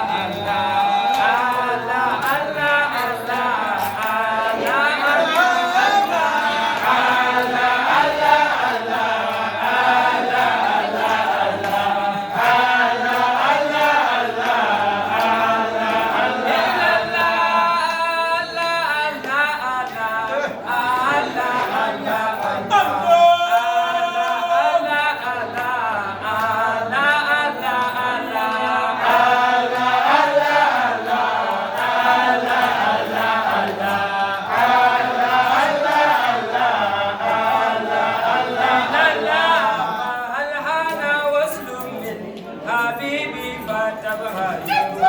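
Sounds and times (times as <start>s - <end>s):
group of voices chanting: 0.0s - 18.0s, 19.2s - 41.0s, 44.3s - 45.0s.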